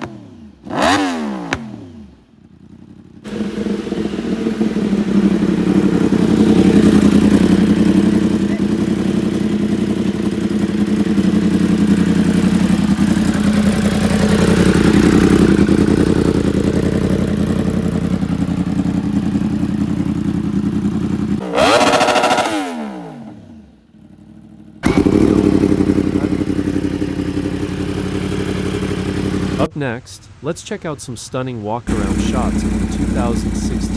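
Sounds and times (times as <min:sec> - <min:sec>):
motorcycle engine running and revving: 0:00.0 - 0:29.7, 0:31.9 - 0:33.9.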